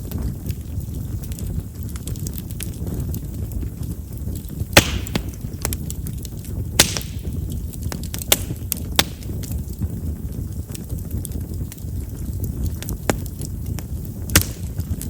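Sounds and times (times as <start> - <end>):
bonfire crackling and popping: 0.0 - 15.0
low rumble of flames: 0.0 - 15.0.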